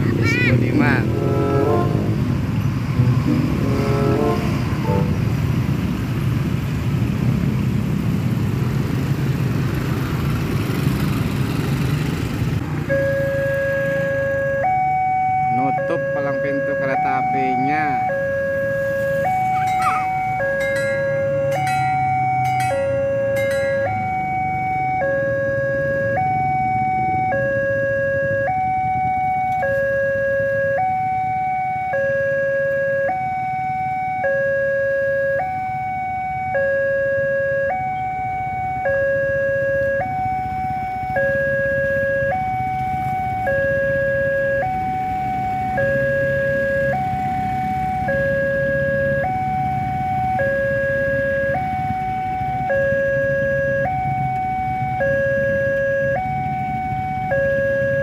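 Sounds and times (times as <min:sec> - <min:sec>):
level crossing two-tone alarm: 0:00.2 - 0:02.2, 0:12.9 - 0:58.0.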